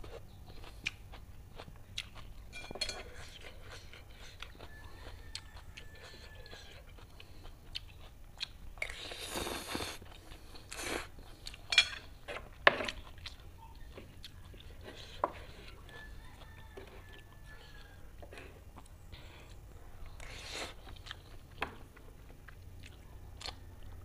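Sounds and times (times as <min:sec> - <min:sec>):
person chewing and slurping noodles: 0:00.0 - 0:24.0.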